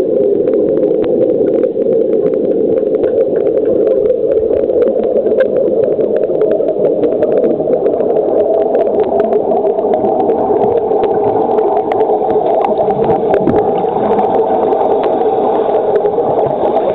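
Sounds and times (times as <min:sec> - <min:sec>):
muffled underwater drone: 0:00.0 - 0:16.9
underwater clicks and crackles: 0:00.0 - 0:16.9.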